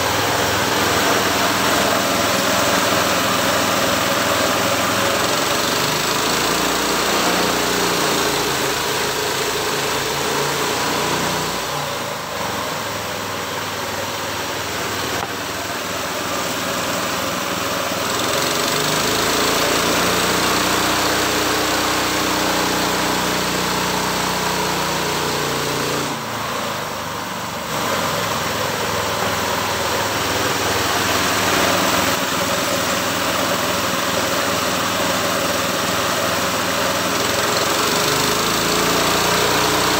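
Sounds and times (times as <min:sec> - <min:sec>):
small engine driving sawmill: 0:00.0 - 0:39.9.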